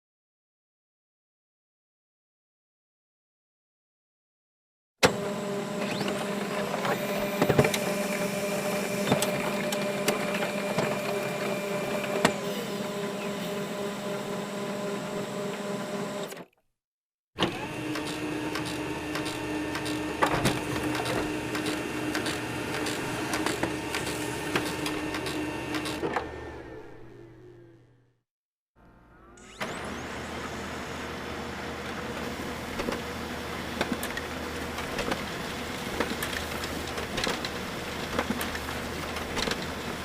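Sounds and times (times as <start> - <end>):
printer motor hum: 5.0 - 16.4, 17.4 - 28.1, 29.0 - 40.0.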